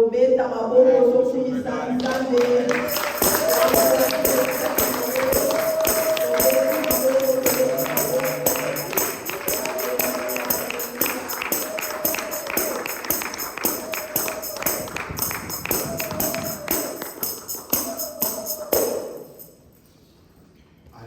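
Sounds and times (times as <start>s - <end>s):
church worship music: 0.2s - 19.7s
tambourine shaken in rhythm: 2.6s - 19.8s.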